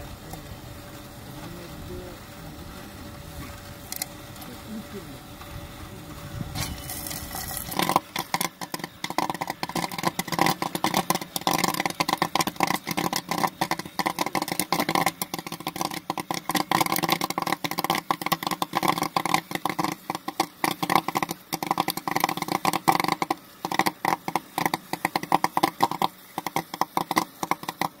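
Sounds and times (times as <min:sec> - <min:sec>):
machine hum: 0:00.0 - 0:28.0
popcorn popping: 0:00.0 - 0:28.0.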